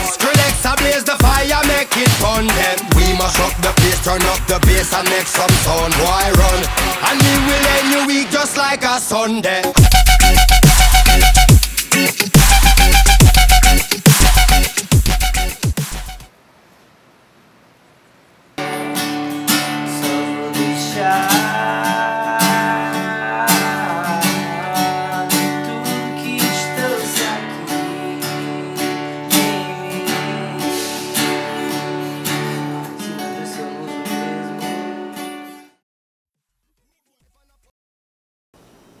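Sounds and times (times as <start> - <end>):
acoustic guitar strumming: 0.0 - 15.2, 18.6 - 35.8.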